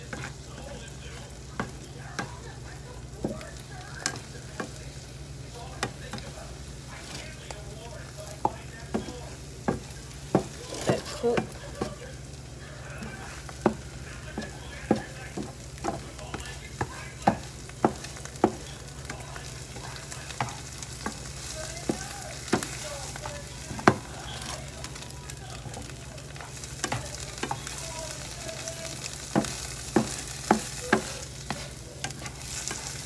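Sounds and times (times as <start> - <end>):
eggs sizzling in frying pan: 0.0 - 33.0
spatula scraping and knocking pan: 0.0 - 33.0.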